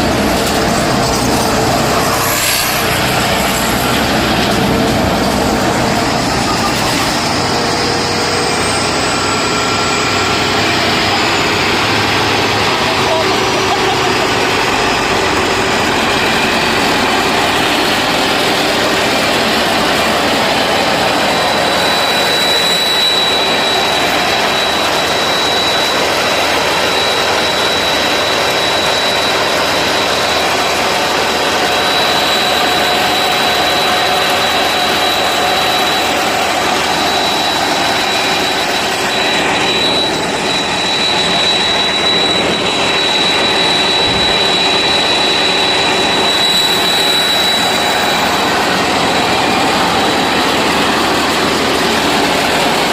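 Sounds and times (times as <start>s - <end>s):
diesel engine at high revs: 0.0s - 52.9s
steady high whine: 0.0s - 52.9s.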